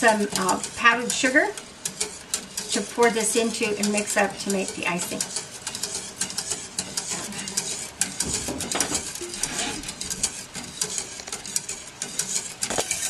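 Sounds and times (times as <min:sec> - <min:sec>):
whisk ticking against saucepan: 0:00.0 - 0:13.0.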